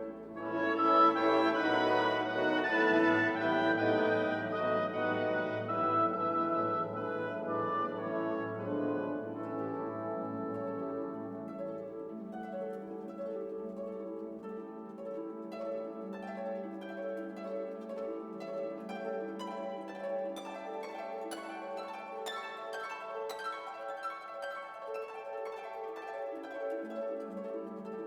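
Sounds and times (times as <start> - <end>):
plucked harp: 0.0 - 28.0.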